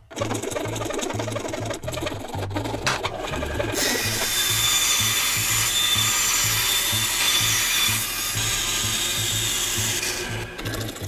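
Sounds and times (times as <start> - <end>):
bandsaw cutting plastic: 0.0 - 11.0.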